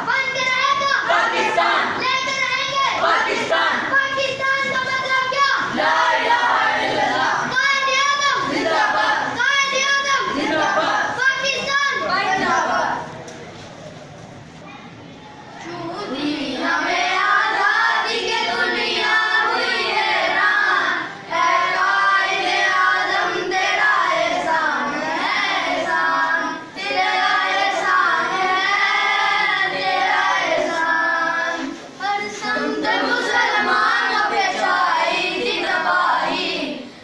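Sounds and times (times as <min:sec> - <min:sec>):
boys singing in unison: 0:00.0 - 0:13.1, 0:16.1 - 0:36.9.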